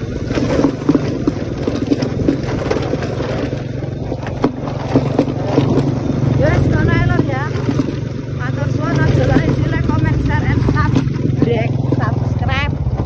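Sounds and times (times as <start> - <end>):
knocks and rattles: 0.0 - 13.0
motorbike engine running: 0.0 - 13.0.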